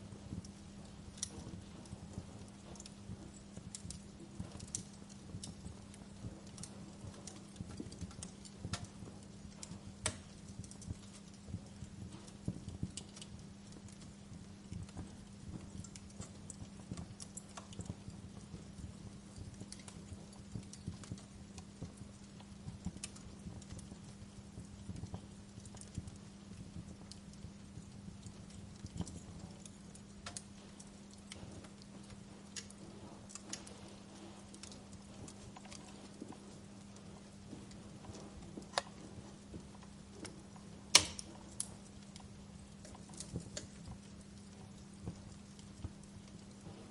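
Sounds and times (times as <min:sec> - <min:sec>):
fire crackling and popping: 0:00.0 - 0:46.9
soft hiss of fire: 0:00.0 - 0:46.9
steady low hum: 0:00.0 - 0:46.9.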